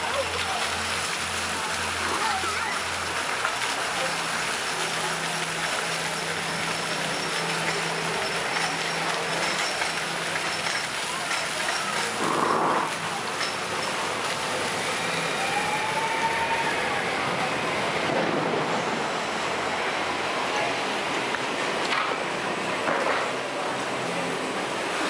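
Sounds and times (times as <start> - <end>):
low hum of machinery: 0.0 - 25.0
water rushing hiss: 0.0 - 25.0.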